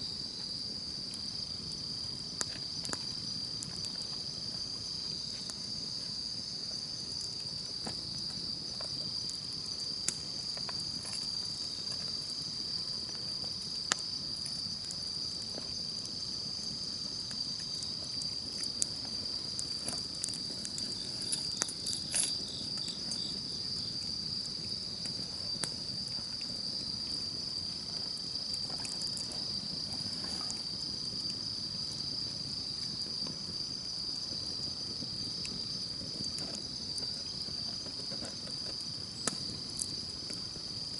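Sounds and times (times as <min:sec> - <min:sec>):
insects calling: 0:00.0 - 0:40.9
campfire crackling: 0:00.1 - 0:40.9.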